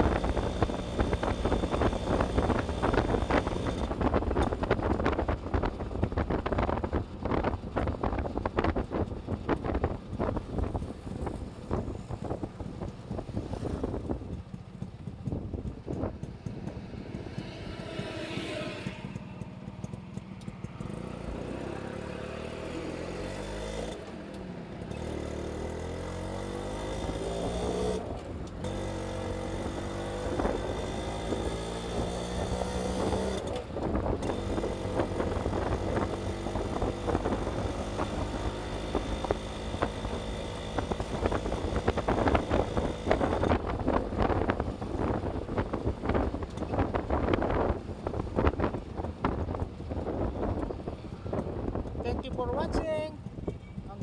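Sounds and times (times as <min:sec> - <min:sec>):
wind buffeting on microphone: 0:00.0 - 0:21.5, 0:28.6 - 0:54.0
motorcycle engine accelerating: 0:00.0 - 0:54.0.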